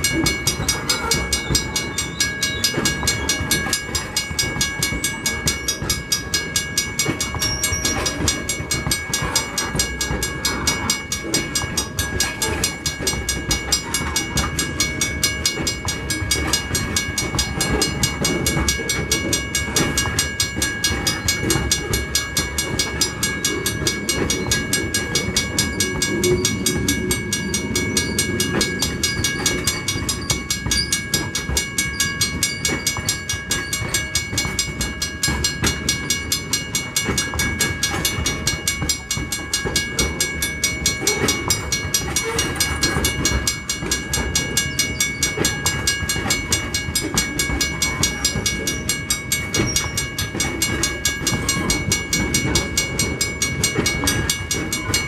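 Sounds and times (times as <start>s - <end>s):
freight train wheels rumbling: 0.0s - 55.0s
high-pitched ringing: 0.0s - 55.0s
wheels clacking over rail joints: 0.0s - 55.0s.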